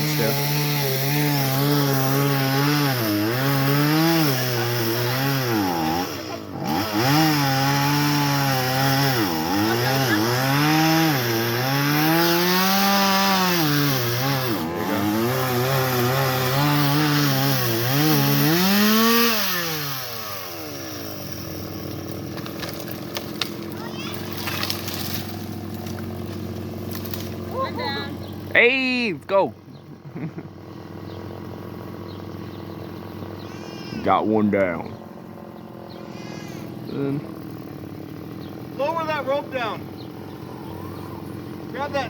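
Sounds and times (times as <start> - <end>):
chainsaw cutting tree limb: 0.0 - 28.5, 30.3 - 42.0.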